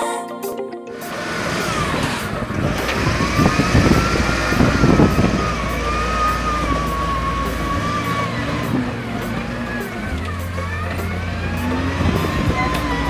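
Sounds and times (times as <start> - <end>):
wheel loader diesel engine: 1.0 - 13.0.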